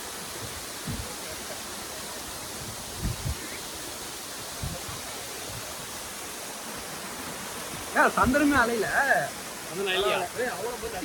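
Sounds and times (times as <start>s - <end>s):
water pouring over waterfall: 0.0s - 11.0s.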